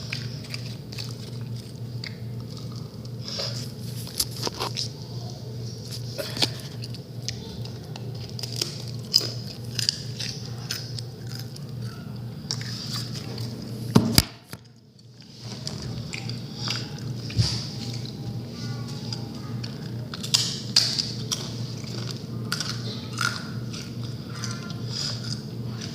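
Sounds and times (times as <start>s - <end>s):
crunching and crackling: 0.0s - 25.9s
low steady hum: 0.0s - 25.9s.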